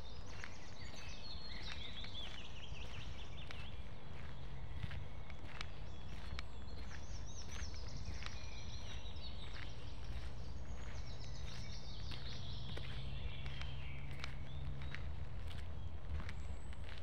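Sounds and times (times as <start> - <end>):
footsteps on dirt path: 0.0 - 17.0
songbirds chirping and trilling: 0.0 - 17.0
steady low rumble: 0.0 - 17.0.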